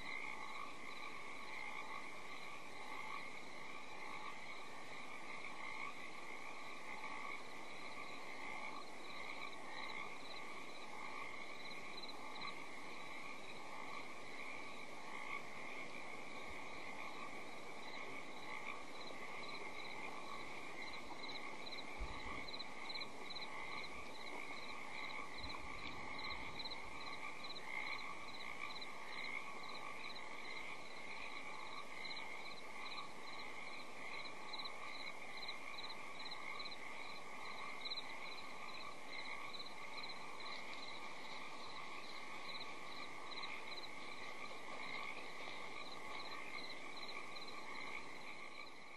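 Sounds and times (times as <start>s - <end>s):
frogs calling: 0.0s - 48.9s.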